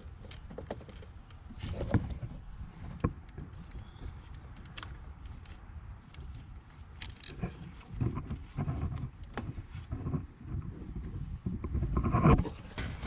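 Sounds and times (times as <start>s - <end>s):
low rumbling handling noise: 0.0s - 13.0s.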